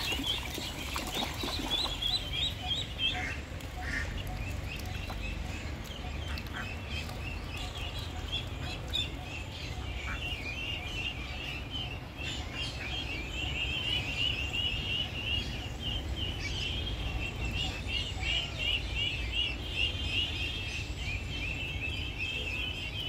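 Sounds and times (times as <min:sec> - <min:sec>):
ducklings peeping: 0:00.0 - 0:23.0.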